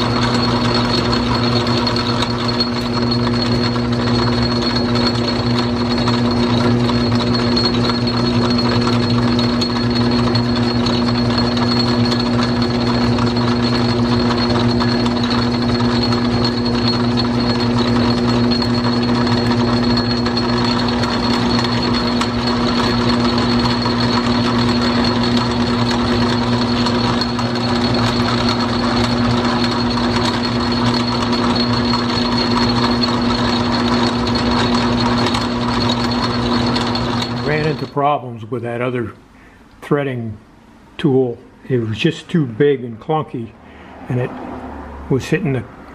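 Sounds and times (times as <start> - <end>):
metal lathe humming: 0.0 - 39.0.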